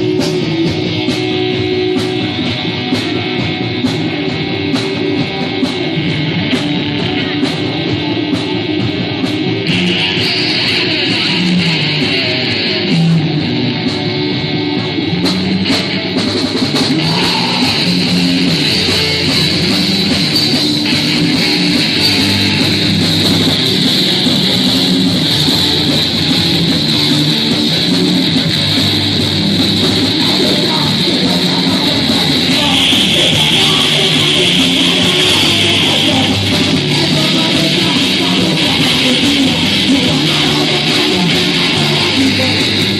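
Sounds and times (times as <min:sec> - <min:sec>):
guitar rock music: 0:00.0 - 0:42.9.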